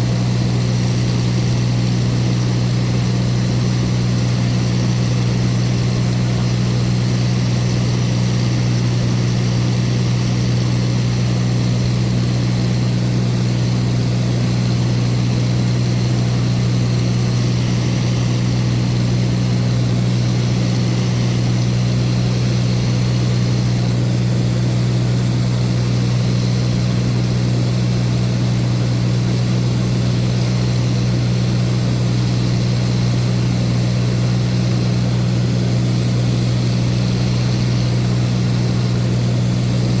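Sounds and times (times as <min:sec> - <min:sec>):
propeller aircraft engine drone: 0:00.0 - 0:40.0.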